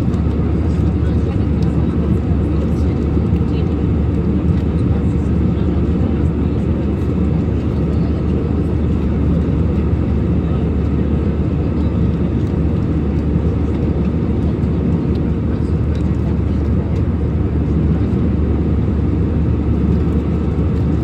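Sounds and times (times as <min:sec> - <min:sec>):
airliner cabin engine roar: 0:00.0 - 0:21.0.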